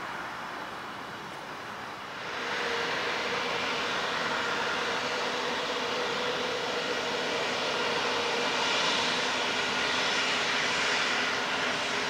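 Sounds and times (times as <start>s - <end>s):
jet engines at high power: 0.0s - 12.0s.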